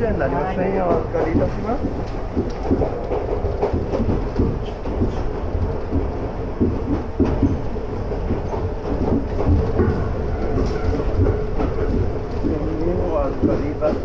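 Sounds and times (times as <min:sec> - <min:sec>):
clacks over rail joints: 0:00.0 - 0:14.0
train wheels rumbling on rails: 0:00.0 - 0:14.0.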